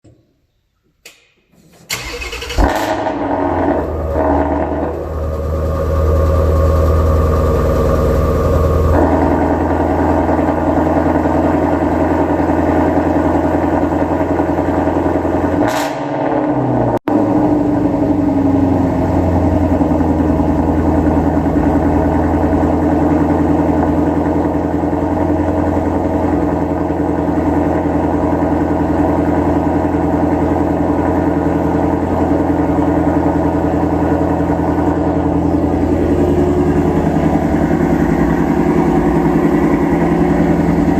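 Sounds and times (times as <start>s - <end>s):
car engine idling: 1.9s - 15.6s, 17.1s - 40.9s.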